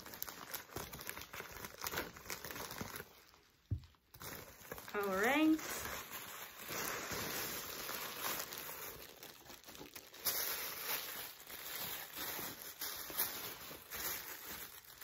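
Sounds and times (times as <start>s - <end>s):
plastic and paper crinkling: 0.0s - 15.0s
sharp plastic crackles: 0.0s - 15.0s.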